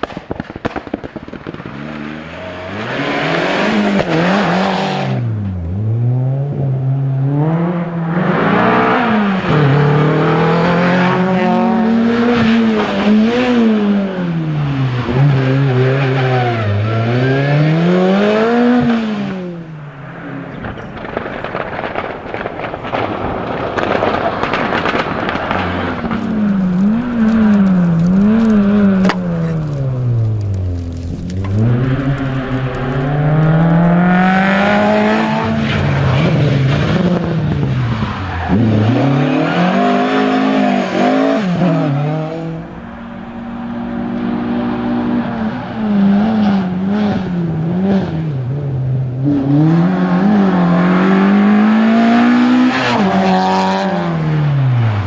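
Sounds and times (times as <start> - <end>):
rally car engine revving: 0.7 - 55.0.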